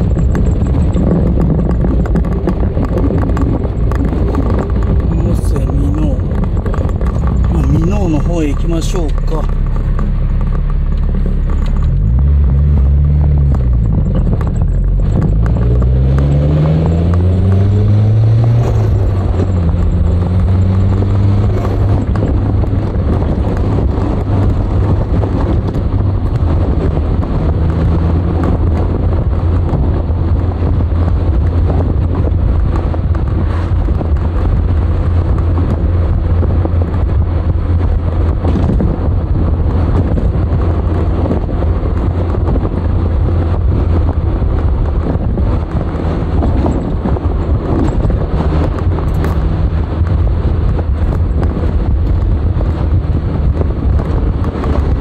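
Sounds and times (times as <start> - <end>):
road noise: 0.0 - 55.0
turbo engine accelerating: 0.0 - 55.0.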